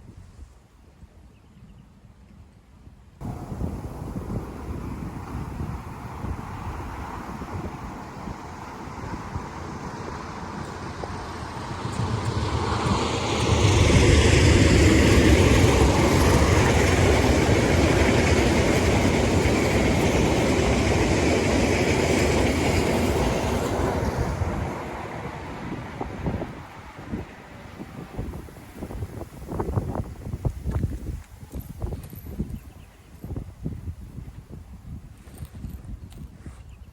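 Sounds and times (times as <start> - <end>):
train passing on rails: 3.2 - 35.8.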